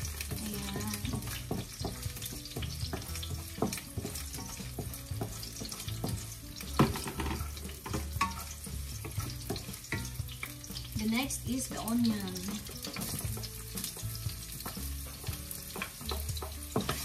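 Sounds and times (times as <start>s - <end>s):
garlic sizzling in oil: 0.0s - 17.0s
wooden spatula scraping pan: 0.2s - 10.5s, 12.5s - 17.0s.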